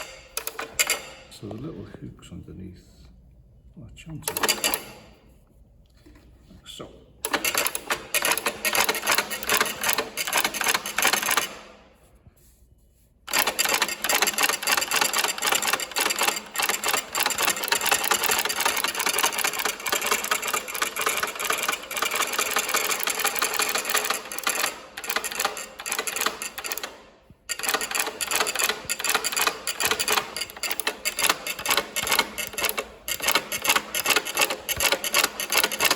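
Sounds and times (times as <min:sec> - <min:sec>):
sewing machine clattering: 0:00.0 - 0:01.4, 0:04.3 - 0:05.1, 0:07.2 - 0:11.7, 0:13.3 - 0:35.9.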